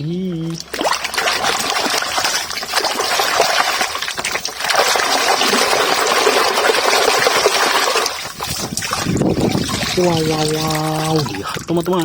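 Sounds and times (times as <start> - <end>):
water splashing and running: 0.2 - 12.0.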